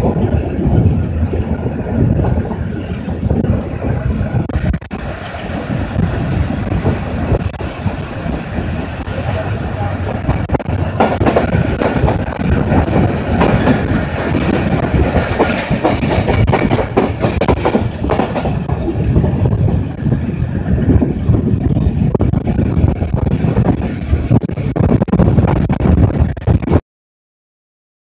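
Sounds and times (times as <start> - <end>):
clickety-clack over rail joints: 0.0 - 26.7
train wheels rumbling: 0.0 - 26.8.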